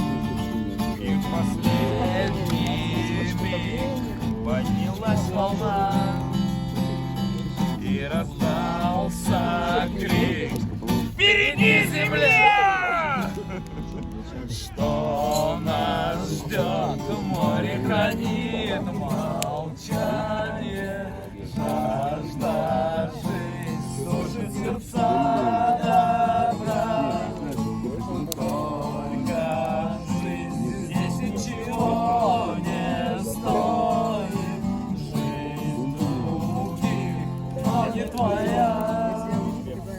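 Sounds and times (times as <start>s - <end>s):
acoustic guitar chords: 0.0s - 39.9s.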